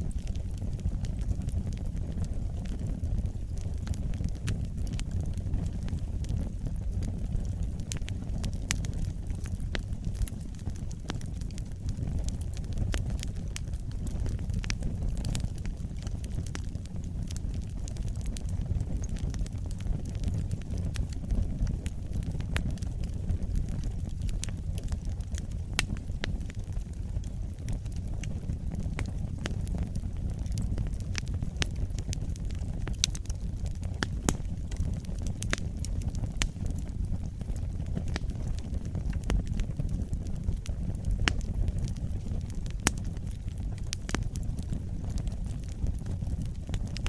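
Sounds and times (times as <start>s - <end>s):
logs crackling and popping: 0.0s - 47.0s
wood fire rumbling: 0.0s - 47.0s.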